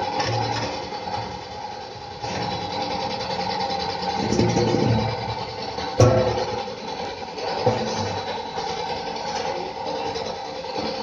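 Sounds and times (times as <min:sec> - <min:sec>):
machine hum with held tones: 0:00.0 - 0:11.0.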